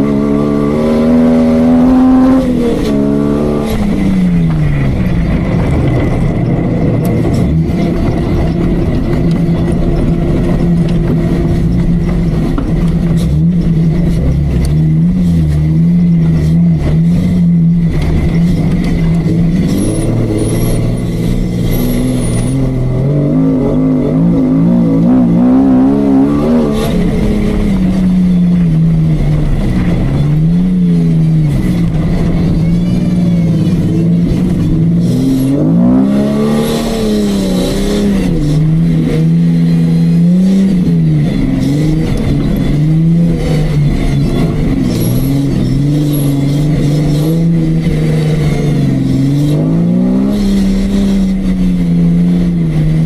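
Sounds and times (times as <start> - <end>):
engine revving under load: 0.0 - 53.0.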